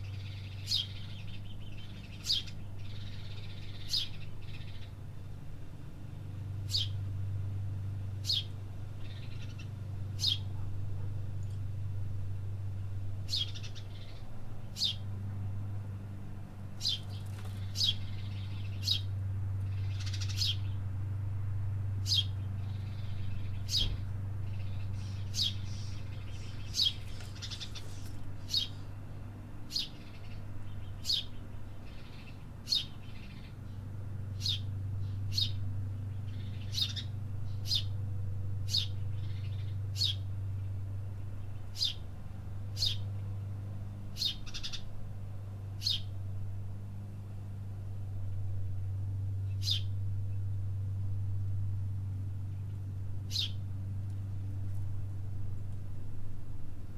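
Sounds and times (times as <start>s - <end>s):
songbirds chirping: 0.0s - 56.9s
steady low hum: 0.0s - 56.9s.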